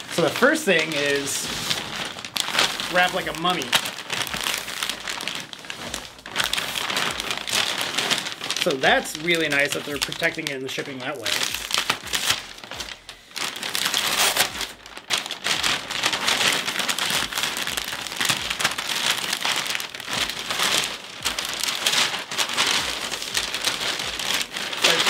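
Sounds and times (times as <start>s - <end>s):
packing wrap crinkling: 0.0s - 25.0s.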